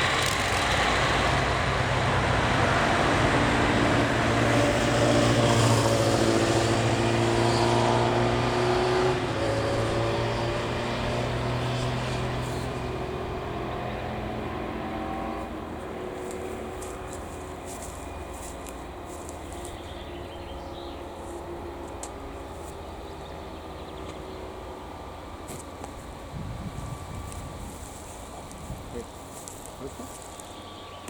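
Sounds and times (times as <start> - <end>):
truck engine passing by: 0.0 - 31.0.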